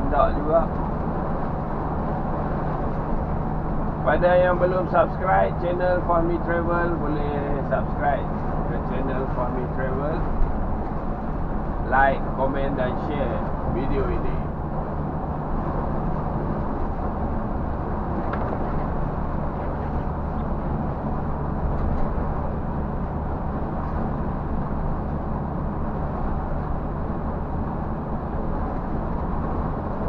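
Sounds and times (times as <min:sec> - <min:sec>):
bus engine drone: 0:00.0 - 0:30.0
road and tyre noise: 0:00.0 - 0:30.0.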